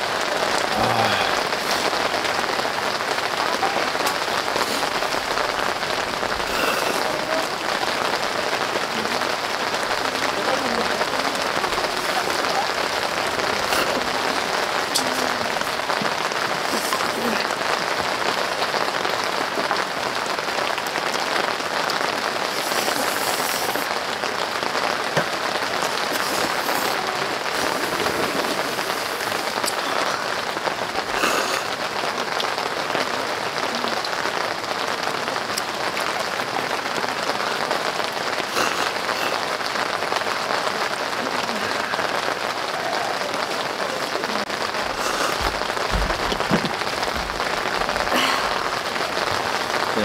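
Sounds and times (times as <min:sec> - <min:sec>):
heavy rain on a tent: 0:00.0 - 0:50.0.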